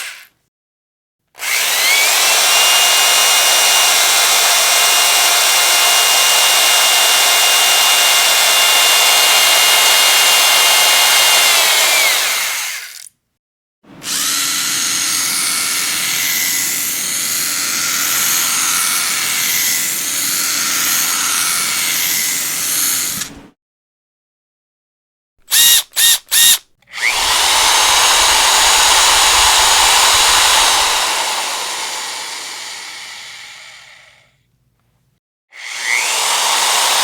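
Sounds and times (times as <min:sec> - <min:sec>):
electric power drill whining: 0:01.4 - 0:13.1, 0:14.0 - 0:23.4, 0:25.5 - 0:34.3, 0:35.5 - 0:37.0.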